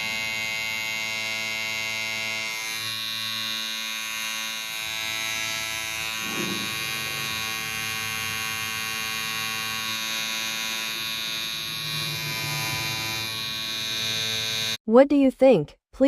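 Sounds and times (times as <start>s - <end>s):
electric hair clipper buzzing: 0.0s - 14.8s.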